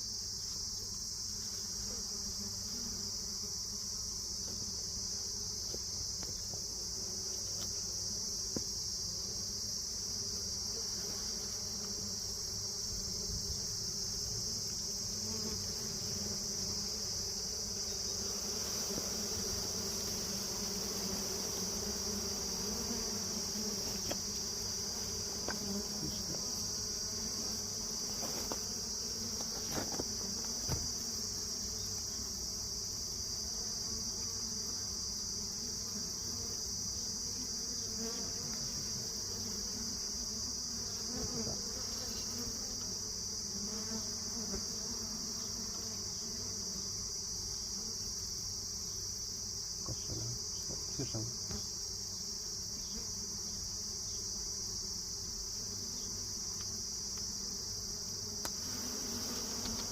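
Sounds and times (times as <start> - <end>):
high-pitched insect trill: 0.0 - 59.9
bees buzzing: 0.6 - 59.9.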